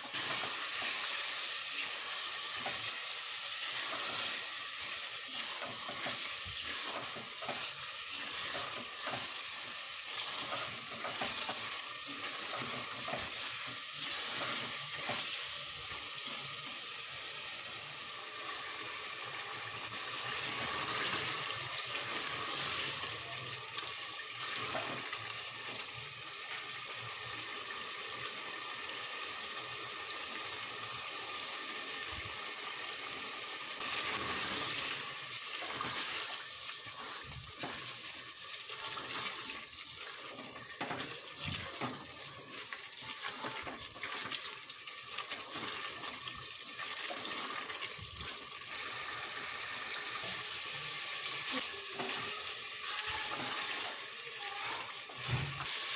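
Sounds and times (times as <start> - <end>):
curry sizzling in a pot: 0.0 - 55.9.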